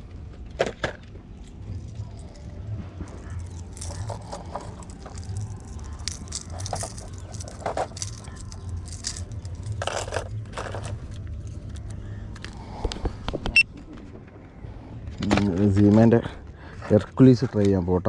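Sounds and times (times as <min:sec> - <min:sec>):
steady low hum: 0:00.0 - 0:17.2
fishing tackle rustling and scraping: 0:00.4 - 0:13.1, 0:13.7 - 0:17.8.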